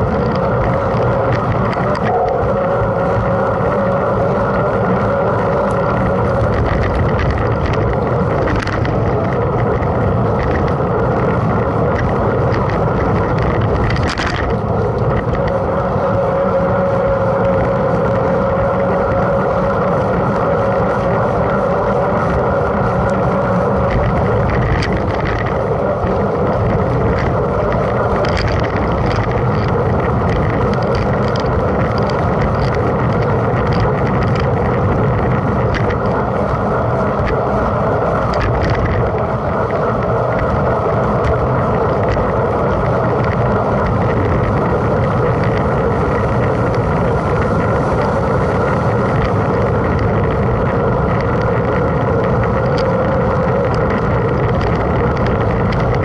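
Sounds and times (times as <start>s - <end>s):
bike tyres rolling: 0.0s - 56.0s
faint clicks and rattles: 0.0s - 56.0s
wind rushing: 0.0s - 56.0s.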